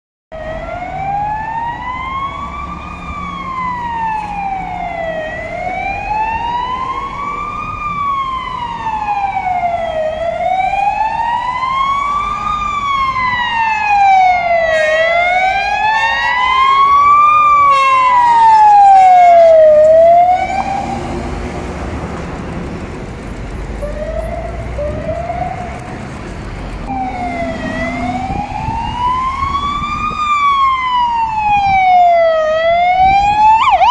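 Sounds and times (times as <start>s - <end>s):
city traffic noise: 0.3s - 33.9s
fire engine sirens wailing: 0.3s - 33.9s.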